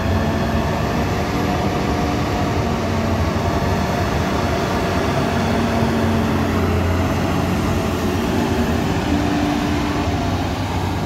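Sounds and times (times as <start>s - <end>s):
diesel engine and hydraulics running: 0.0s - 11.0s.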